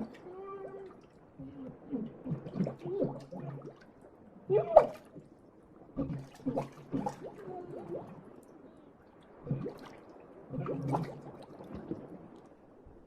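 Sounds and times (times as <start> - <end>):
water gurgling and bubbling: 0.0 - 5.3, 5.9 - 8.4, 9.4 - 12.4.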